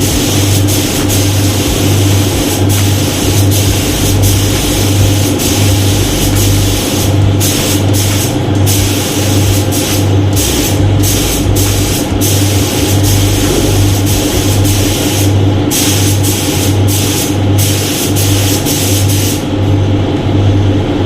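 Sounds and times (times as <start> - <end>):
spray gun hissing: 0.0 - 19.5
pulsing low hum: 0.0 - 21.0.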